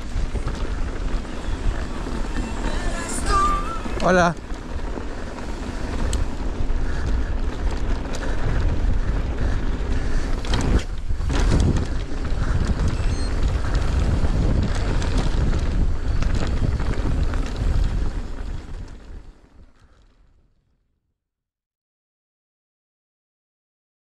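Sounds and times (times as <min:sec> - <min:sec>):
bike clicks and rattles: 0:00.0 - 0:20.4
wind buffeting microphone: 0:00.0 - 0:20.5.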